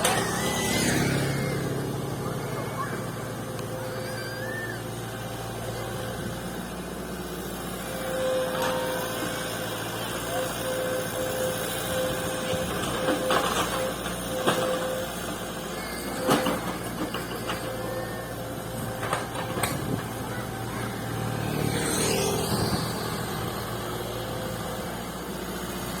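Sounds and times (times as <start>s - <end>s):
excavator engine running: 0.0s - 26.0s.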